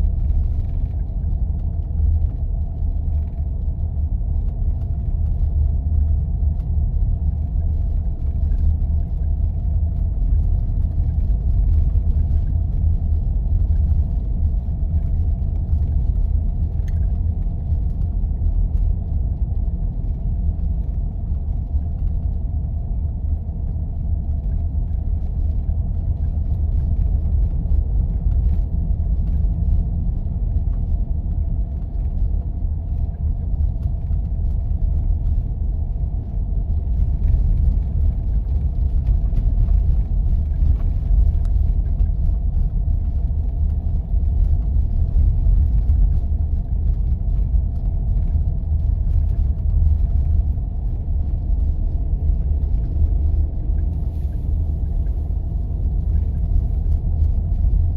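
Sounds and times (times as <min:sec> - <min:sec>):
engine and tyres rumbling on snow: 0:00.0 - 0:57.9
faint steady hum: 0:00.0 - 0:57.9.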